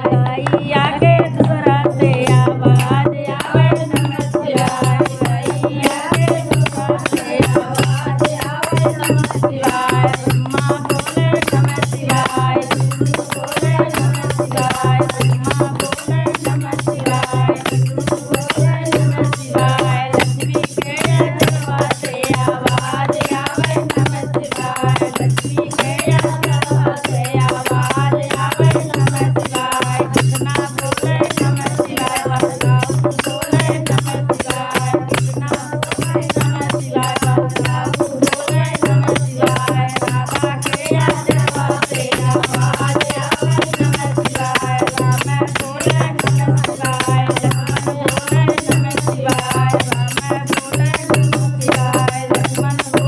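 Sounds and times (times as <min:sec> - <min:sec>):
fast rattling percussion beat: 0:00.0 - 0:53.0.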